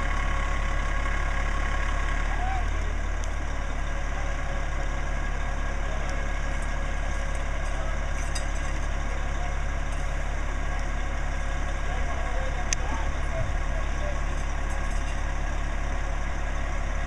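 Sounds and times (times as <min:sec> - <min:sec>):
fire engine idling: 0:00.0 - 0:17.0.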